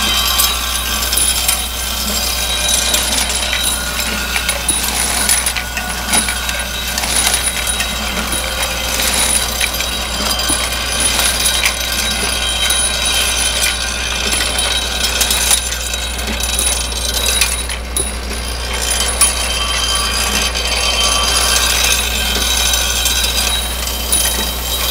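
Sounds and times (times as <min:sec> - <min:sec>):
feeder machine humming: 0:00.0 - 0:24.9.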